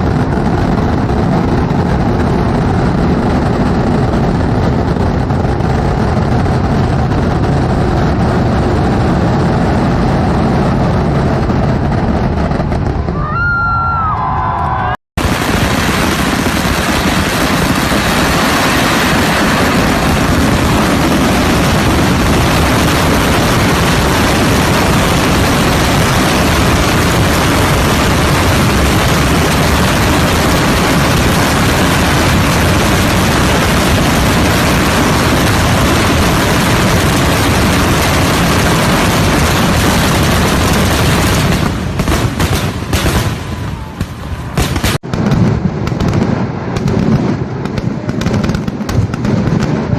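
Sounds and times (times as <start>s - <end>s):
firecracker explosions: 0.0s - 49.9s.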